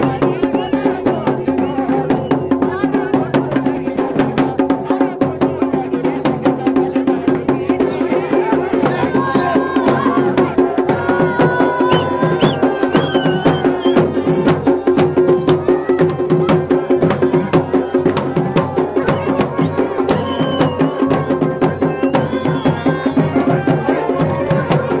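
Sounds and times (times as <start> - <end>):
drums beaten in fast rhythm: 0.0 - 25.0.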